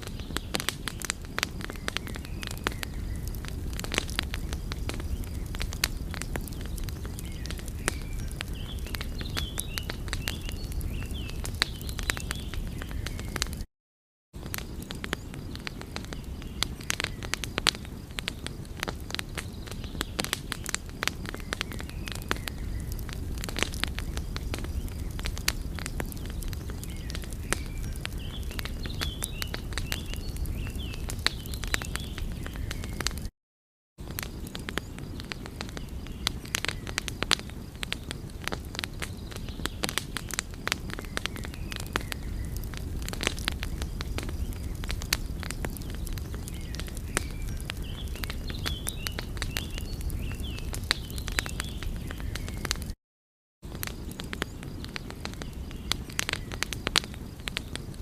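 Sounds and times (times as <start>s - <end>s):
wood fire crackling: 0.0s - 13.7s, 14.4s - 33.3s, 34.0s - 53.0s, 53.6s - 58.0s.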